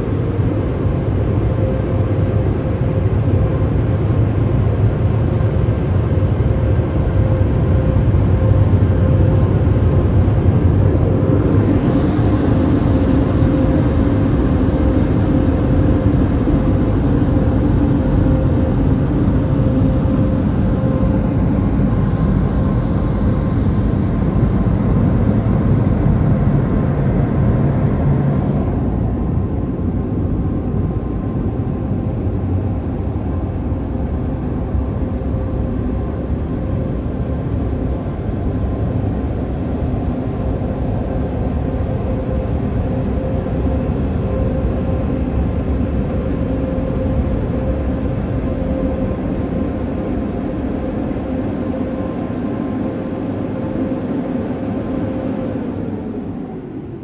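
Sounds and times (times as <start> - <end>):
faint hum: 0.0 - 57.0.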